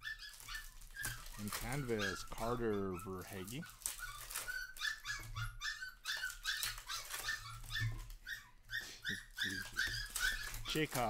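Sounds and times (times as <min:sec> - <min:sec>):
puppy whining: 0:00.0 - 0:11.0.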